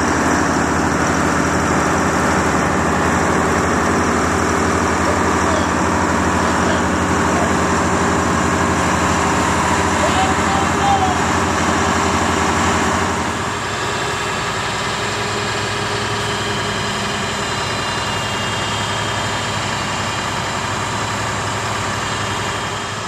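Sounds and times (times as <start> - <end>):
crane diesel engines running: 0.0 - 23.0.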